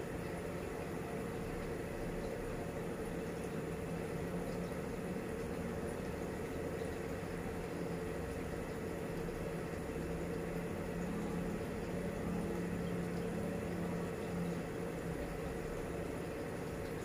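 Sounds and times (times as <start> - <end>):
aquarium filter motor hum: 0.0 - 17.0.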